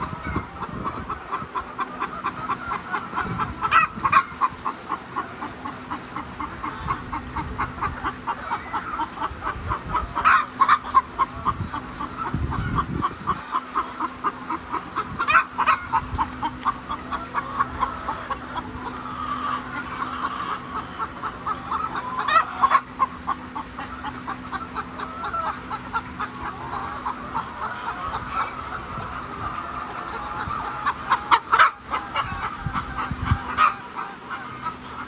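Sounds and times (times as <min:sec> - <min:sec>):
hen squawking: 0:00.0 - 0:35.0
hens clucking: 0:00.0 - 0:35.0
steady low hum: 0:00.0 - 0:35.0.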